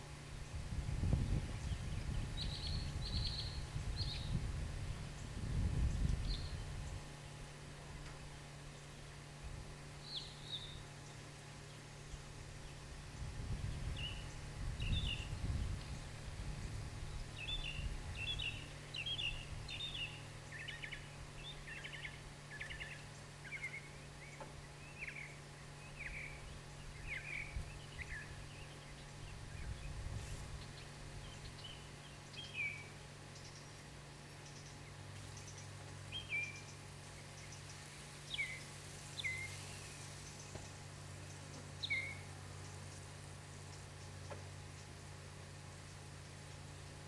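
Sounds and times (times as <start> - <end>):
steady low hum: 0.0 - 47.0
small birds chirping: 1.2 - 4.5, 5.1 - 9.2, 9.9 - 46.9.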